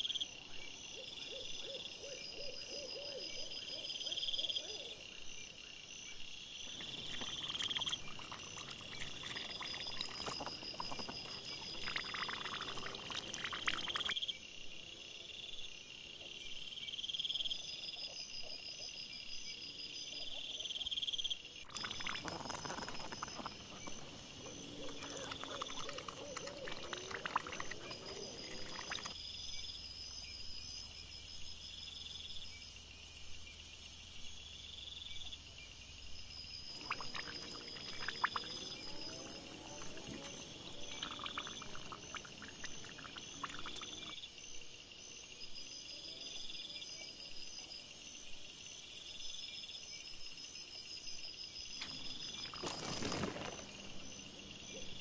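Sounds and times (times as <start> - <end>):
night insects chirping: 0.0 - 55.0.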